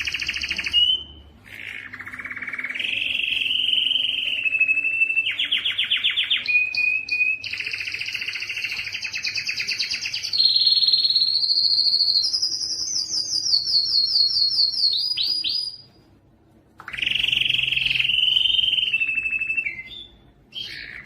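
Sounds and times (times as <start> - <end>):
canary singing: 0.0 - 16.2, 16.8 - 21.0.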